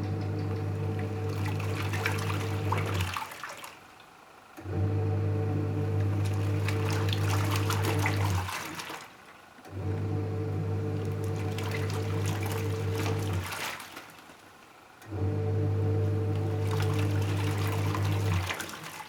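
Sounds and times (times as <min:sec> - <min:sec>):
washing machine motor humming: 0:00.0 - 0:03.6, 0:04.6 - 0:09.0, 0:09.6 - 0:14.0, 0:15.0 - 0:19.0.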